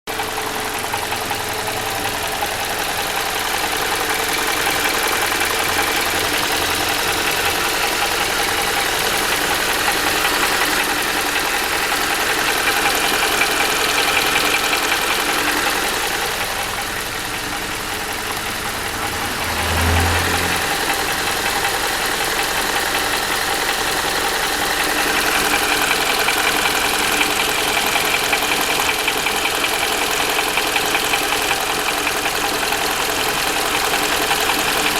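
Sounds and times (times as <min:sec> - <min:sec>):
car engine idling with knock: 0:00.1 - 0:34.9.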